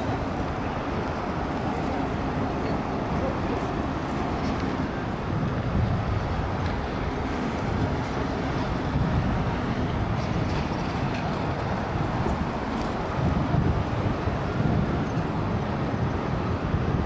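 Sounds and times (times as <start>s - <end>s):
low rumble of traffic: 0.0s - 17.0s
wind buffeting the microphone: 0.0s - 17.0s.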